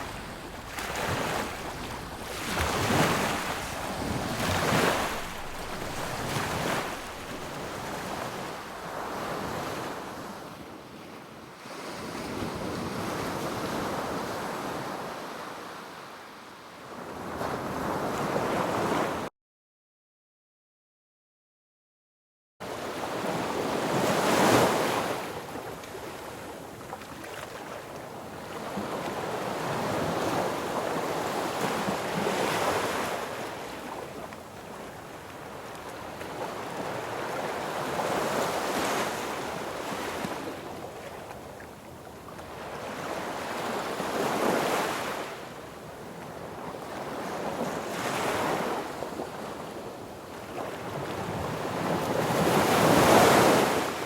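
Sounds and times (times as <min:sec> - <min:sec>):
waves breaking on a beach: 0:00.0 - 0:19.3, 0:22.7 - 0:54.0.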